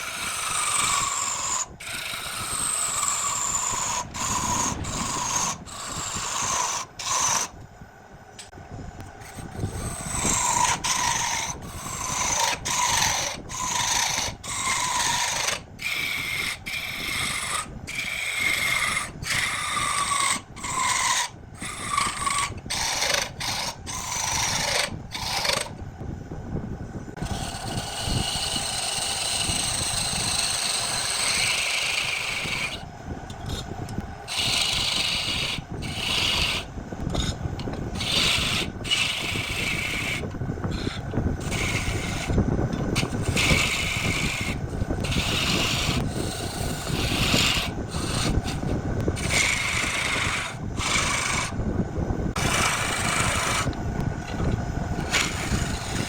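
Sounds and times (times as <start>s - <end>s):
lathe tool cutting wood: 0.0s - 7.6s, 9.2s - 25.7s, 27.2s - 32.9s, 34.2s - 51.6s, 52.3s - 56.0s
steady rubbing sound: 0.0s - 7.6s, 9.1s - 25.7s, 27.1s - 56.0s.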